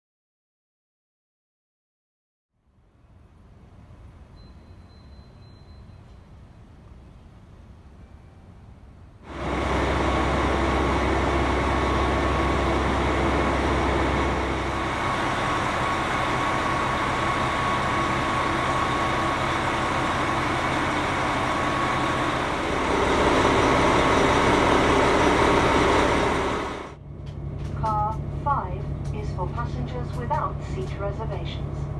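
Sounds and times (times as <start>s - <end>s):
diesel railcar engines idling: 3.6s - 31.9s.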